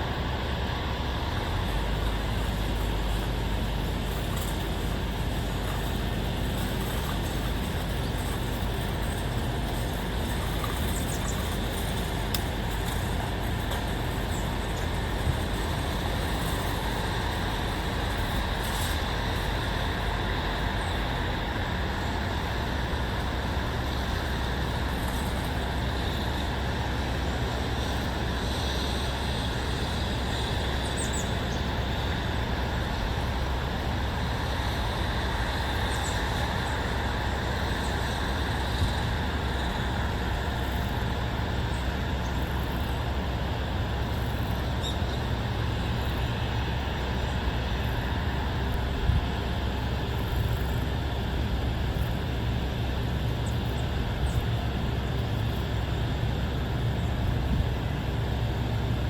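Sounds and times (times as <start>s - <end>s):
distant road traffic rumble: 0.0s - 59.0s.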